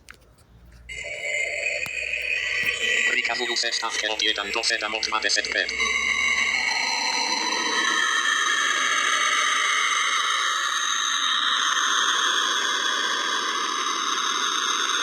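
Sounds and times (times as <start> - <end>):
high whining tones: 0.1 - 12.4
eerie hiss: 1.0 - 15.0.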